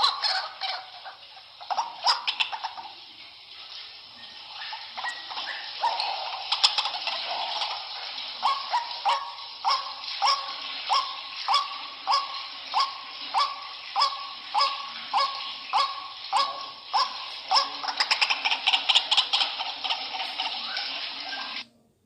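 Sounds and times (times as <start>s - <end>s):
waterhen calling: 0.0s - 21.6s.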